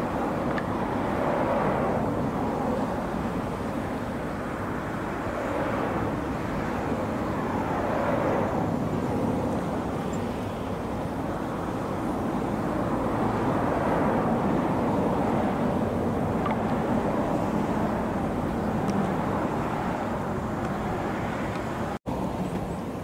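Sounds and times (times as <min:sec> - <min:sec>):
ship engines droning: 0:00.0 - 0:23.0.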